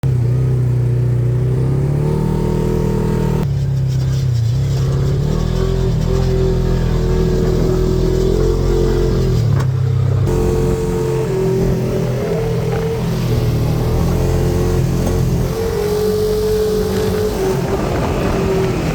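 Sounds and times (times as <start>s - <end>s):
atv engine running: 0.0s - 18.9s.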